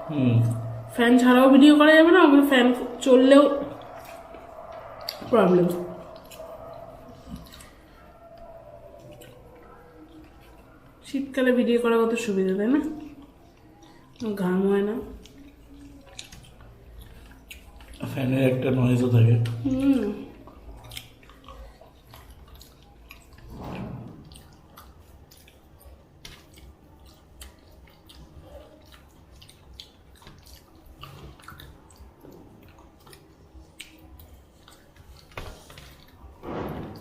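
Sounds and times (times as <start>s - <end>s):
chewing: 0.0s - 37.0s.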